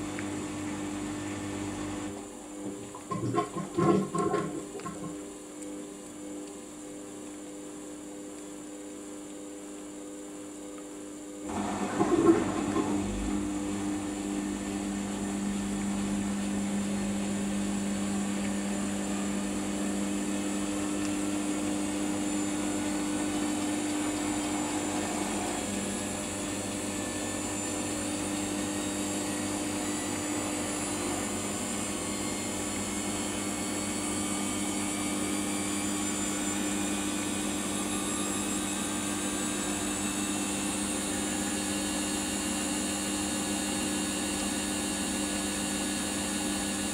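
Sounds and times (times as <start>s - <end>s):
washing machine spinning: 0.0s - 5.5s, 11.4s - 46.9s.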